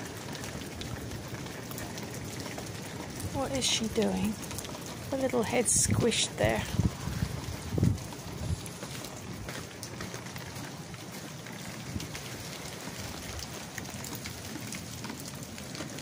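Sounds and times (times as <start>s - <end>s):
rain drop ticks: 0.0s - 16.0s
rain falling: 0.0s - 16.0s.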